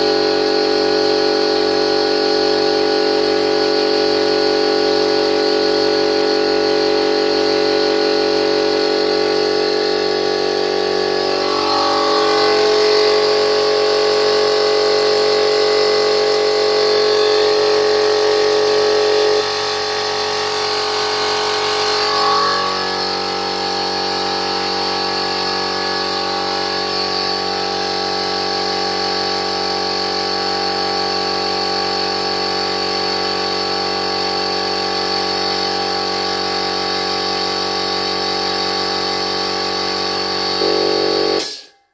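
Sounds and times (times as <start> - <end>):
air compressor running: 0.0 - 41.9.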